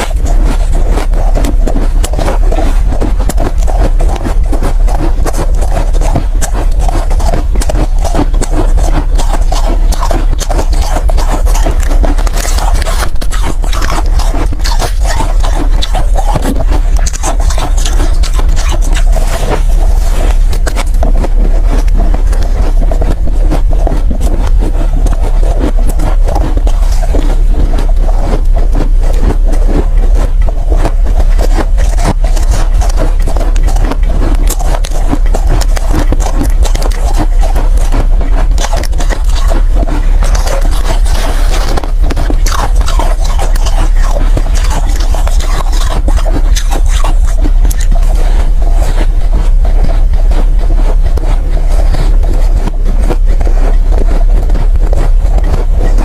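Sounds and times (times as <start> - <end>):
ice being chewed: 0.0 - 56.0
steady low hum: 0.0 - 56.0.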